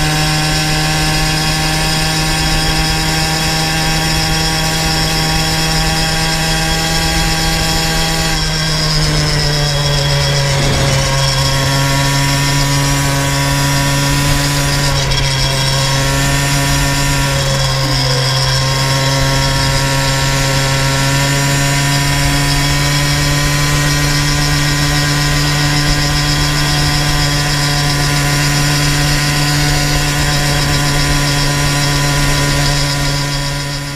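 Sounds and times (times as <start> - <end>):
small single-cylinder engine running: 0.0 - 33.9.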